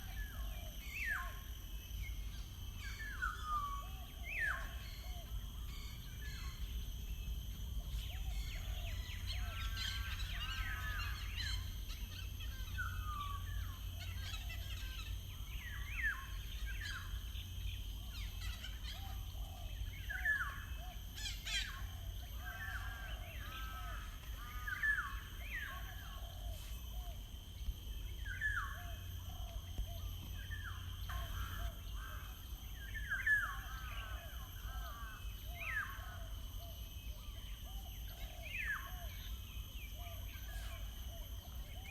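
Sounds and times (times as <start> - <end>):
songbirds chirping and whistling: 0.0 - 41.9.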